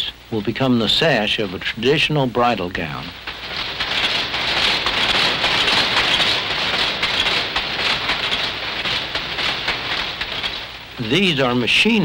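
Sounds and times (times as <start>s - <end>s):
power loom clattering: 0.7s - 12.0s.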